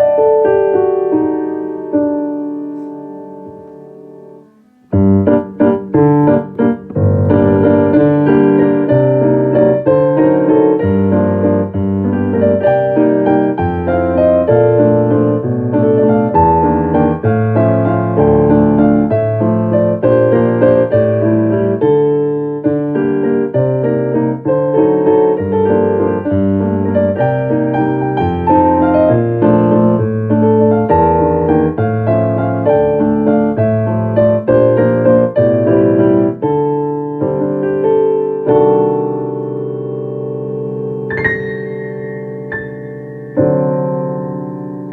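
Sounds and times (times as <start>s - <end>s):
solo piano playing: 0.0s - 44.9s.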